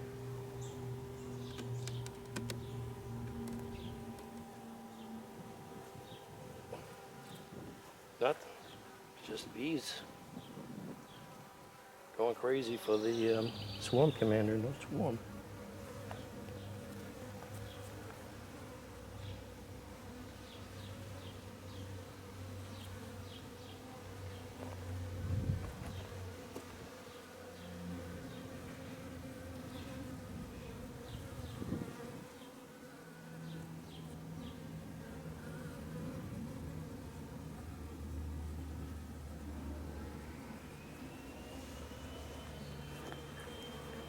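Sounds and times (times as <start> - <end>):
bees buzzing: 0.0 - 44.0.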